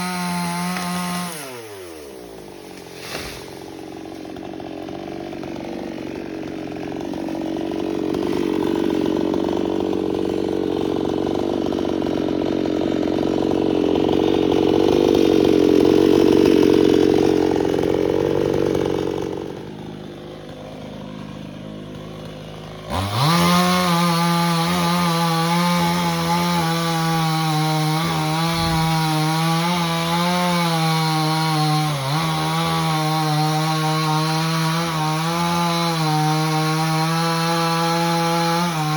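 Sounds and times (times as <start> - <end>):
chainsaw cutting wood: 0.0 - 38.9
high-revving chainsaw: 0.0 - 38.9.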